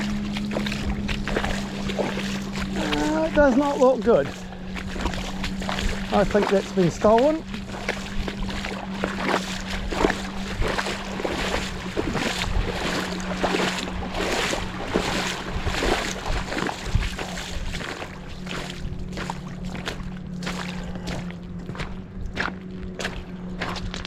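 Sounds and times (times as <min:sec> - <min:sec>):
footsteps wading through water: 0:00.0 - 0:24.0
steady low hum: 0:00.0 - 0:24.0
water sloshing and splashing: 0:00.0 - 0:24.0.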